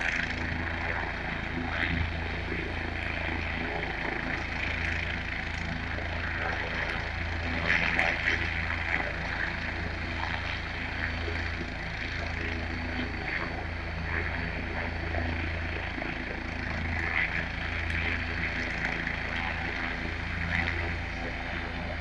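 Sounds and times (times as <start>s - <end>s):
helicopter rotor pulsing: 0.0s - 22.0s.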